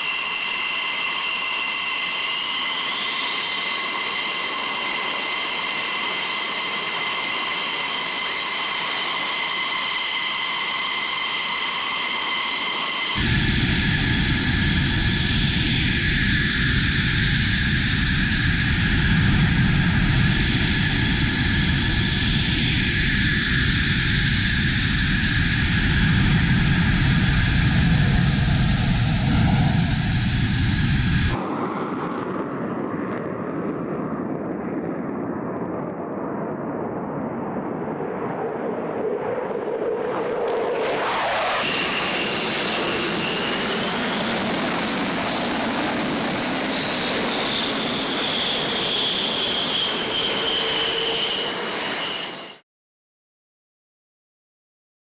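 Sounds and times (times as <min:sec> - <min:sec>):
jet engine roaring: 0:00.0 - 0:52.6.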